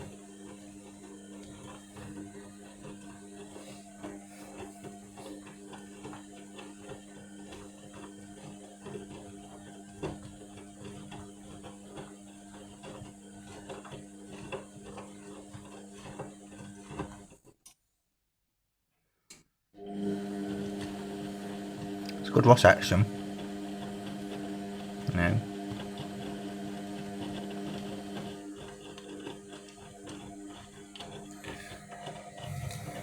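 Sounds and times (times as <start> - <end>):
washing machine motor humming: 0.0 - 17.3, 19.8 - 33.0.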